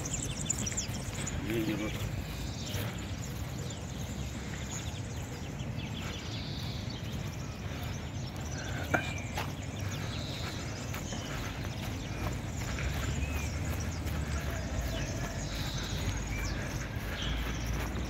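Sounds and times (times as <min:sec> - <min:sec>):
low outdoor noise: 0:00.0 - 0:18.0
runners' footsteps on grass: 0:00.0 - 0:18.0.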